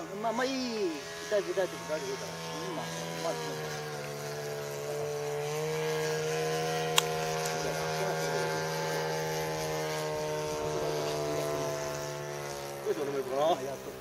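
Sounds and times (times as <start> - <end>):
model plane engine droning: 0.0 - 14.0.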